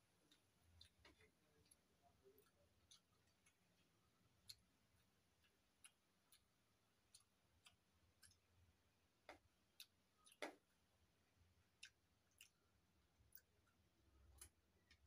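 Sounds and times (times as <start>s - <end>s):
eating by hand: 0.0s - 15.0s.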